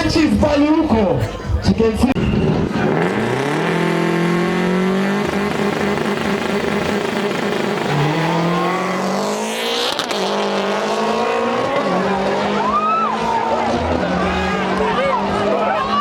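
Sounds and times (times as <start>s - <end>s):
car engine revving hard: 2.1s - 16.0s.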